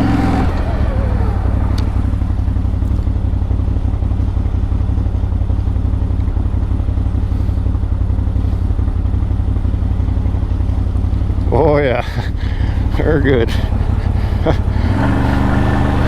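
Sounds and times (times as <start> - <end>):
atv engine running at low speed: 0.0 - 16.0.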